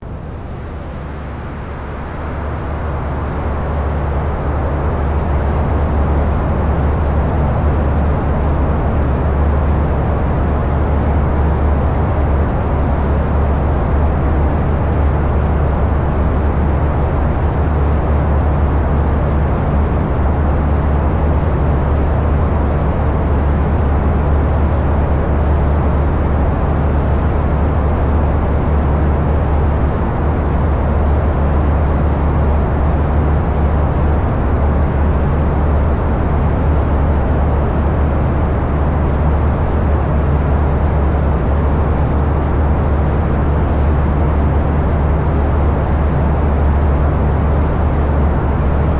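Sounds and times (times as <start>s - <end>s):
light aircraft engine drone: 0.0s - 48.9s.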